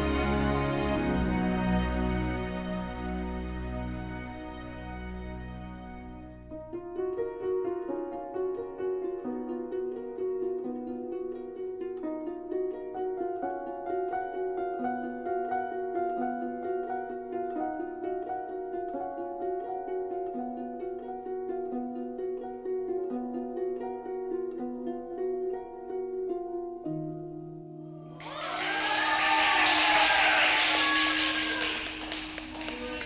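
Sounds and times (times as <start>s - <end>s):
plucked string melody: 0.0s - 28.2s.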